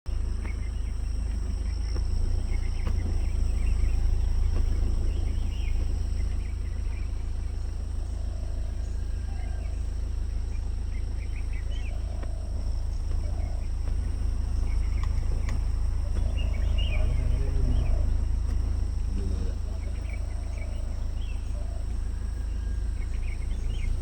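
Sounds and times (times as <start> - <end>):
deep rumble: 0.0 - 24.0
faint chirps: 0.1 - 24.0.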